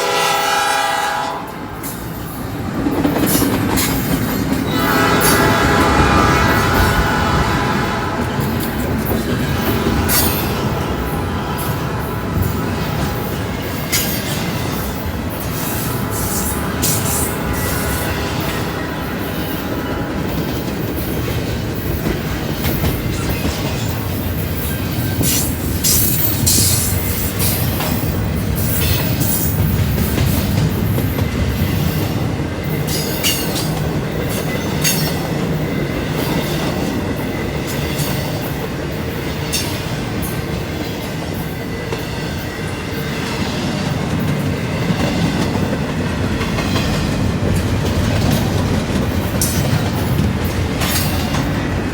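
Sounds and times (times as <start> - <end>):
train cars rumbling past: 0.0 - 51.9
train wheels clicking and knocking: 1.4 - 51.9.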